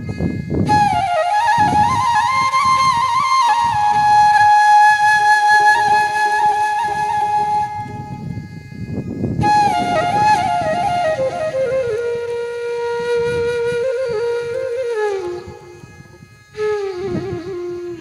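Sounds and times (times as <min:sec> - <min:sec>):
flute melody: 0:00.0 - 0:18.0.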